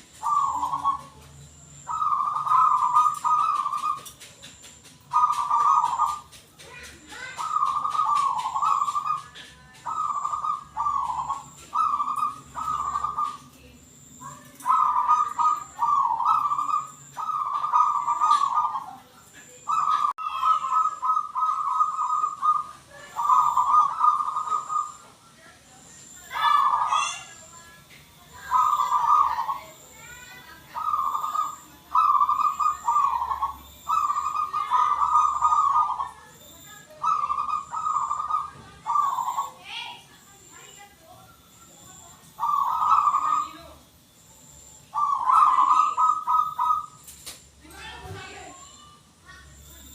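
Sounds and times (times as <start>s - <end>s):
dove cooing: 0.0s - 25.3s, 26.1s - 27.5s, 28.2s - 47.1s.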